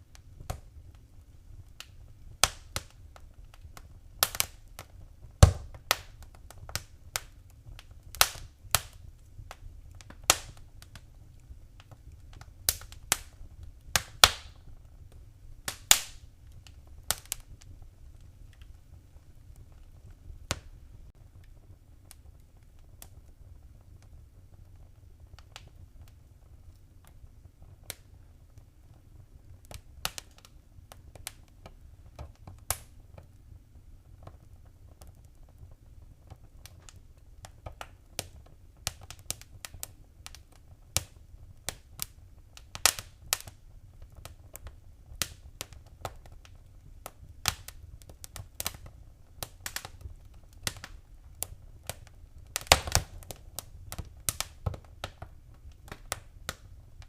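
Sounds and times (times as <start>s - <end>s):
low fire rumble: 0.0s - 57.0s
wood fire pops and snaps: 0.0s - 57.0s.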